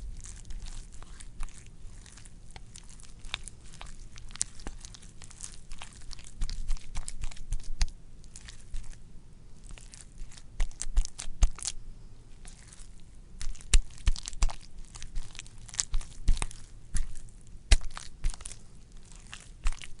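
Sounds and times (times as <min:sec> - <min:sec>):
wet squelching clicks and crackles: 0:00.1 - 0:09.0, 0:09.6 - 0:11.8, 0:12.4 - 0:20.0.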